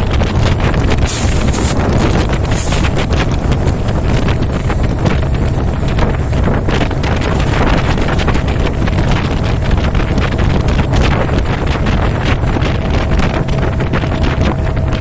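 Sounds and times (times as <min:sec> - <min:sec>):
train passing with wheel clatter: 0:00.0 - 0:15.0
wind buffeting microphone: 0:00.0 - 0:15.0.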